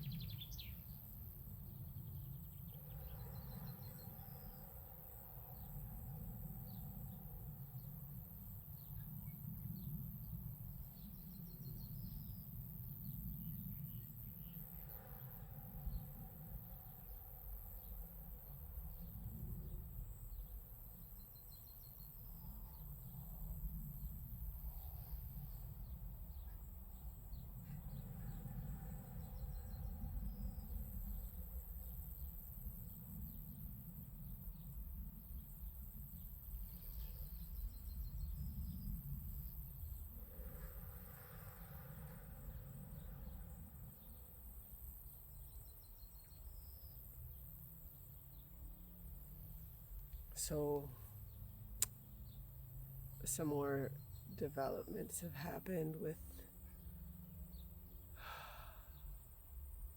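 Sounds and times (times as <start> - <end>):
wind rumble on microphone: 0.0 - 50.4
insects chirping in trills: 0.0 - 59.9.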